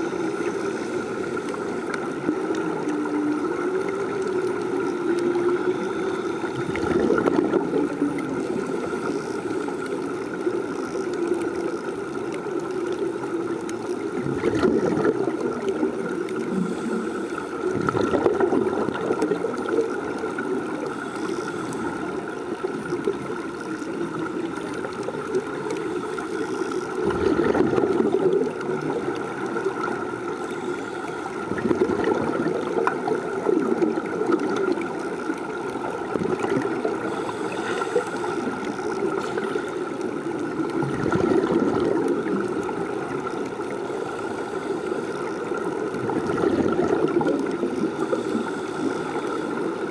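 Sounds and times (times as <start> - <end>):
steady hum: 0.0 - 49.9
underwater bubbling and gurgling: 0.0 - 49.9.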